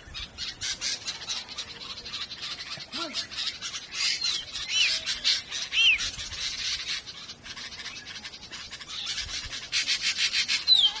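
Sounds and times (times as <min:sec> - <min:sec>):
birds raspy chattering: 0:00.0 - 0:11.0.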